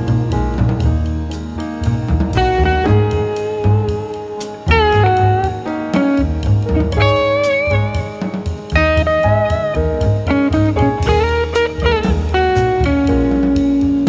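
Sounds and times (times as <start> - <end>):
bass: 0.0 - 14.0
blues guitar notes: 0.0 - 14.0
drums: 0.0 - 14.0.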